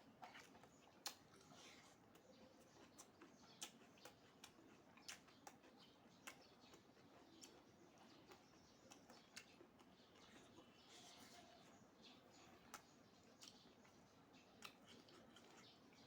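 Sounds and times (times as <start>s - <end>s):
person chewing food: 0.0s - 11.6s, 12.3s - 16.0s.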